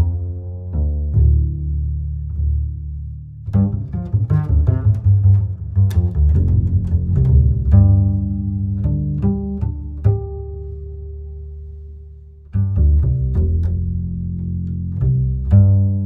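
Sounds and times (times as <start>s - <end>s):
low string instruments: 0.0s - 16.0s.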